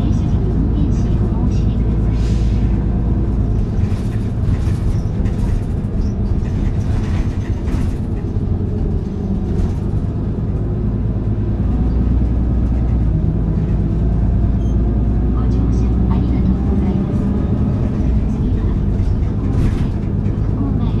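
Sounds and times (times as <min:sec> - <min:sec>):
bus diesel engine droning: 0:00.0 - 0:21.0
road noise: 0:00.0 - 0:21.0.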